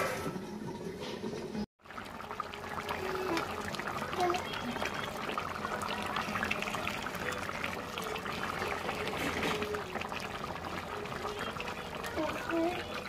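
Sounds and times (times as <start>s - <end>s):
curry bubbling in a pan: 1.8s - 13.0s.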